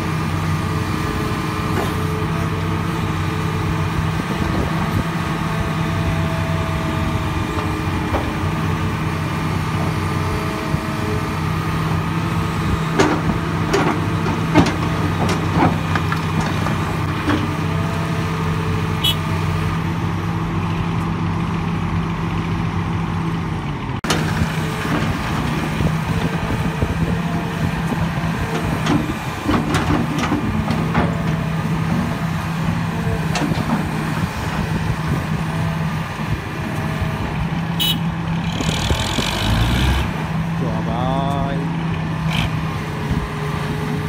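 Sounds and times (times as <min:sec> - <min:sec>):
heavy diesel engines running: 0:00.0 - 0:44.0.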